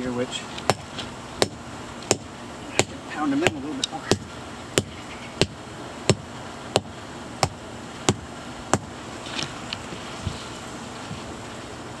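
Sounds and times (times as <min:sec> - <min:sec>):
wooden stakes being pounded: 0:00.6 - 0:10.4.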